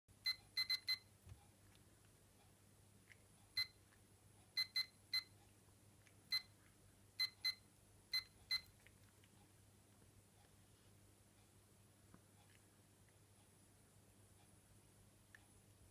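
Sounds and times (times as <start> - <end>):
faint low hum: 0.1 - 15.9.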